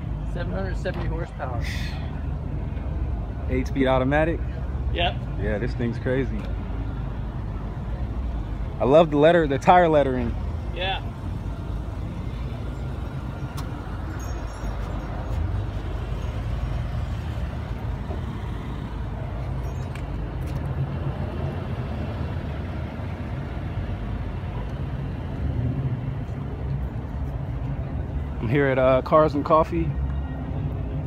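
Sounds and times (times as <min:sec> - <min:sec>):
car engines running: 0:00.0 - 0:31.0.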